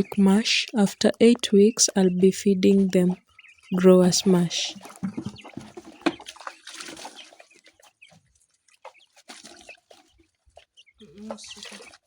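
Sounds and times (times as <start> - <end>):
chicks cheeping: 0.0 - 12.0.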